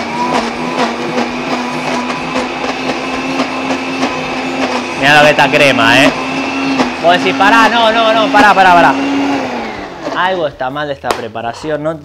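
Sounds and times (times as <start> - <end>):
blender motor running: 0.0 - 10.5.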